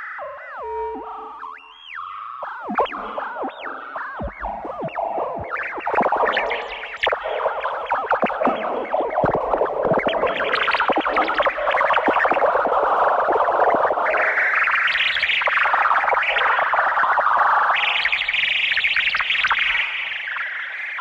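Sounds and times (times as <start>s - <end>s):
distorted synthesizer electronic music: 0.0s - 20.4s.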